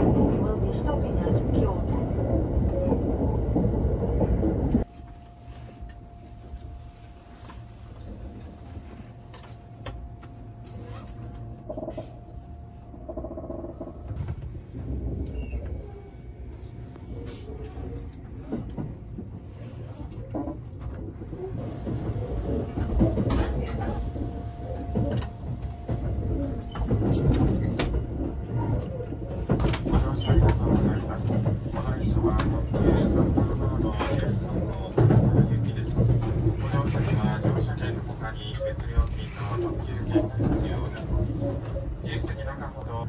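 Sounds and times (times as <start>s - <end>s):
train carriage hum: 0.0s - 43.0s.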